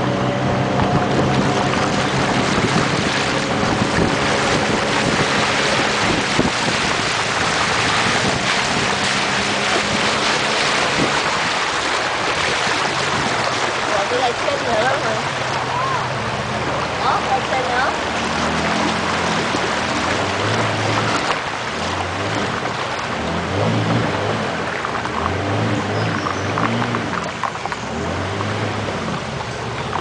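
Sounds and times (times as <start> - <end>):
wind buffeting microphone: 0.0 - 27.5
river water rushing over rocks: 0.0 - 30.0.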